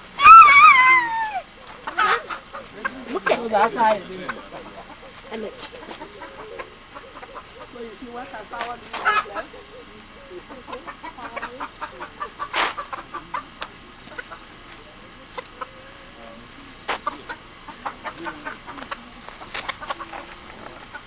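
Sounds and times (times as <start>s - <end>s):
chickens clucking: 0.0s - 21.0s
high insect drone: 0.0s - 21.0s
scattered ticks: 1.6s - 15.8s, 16.9s - 21.0s.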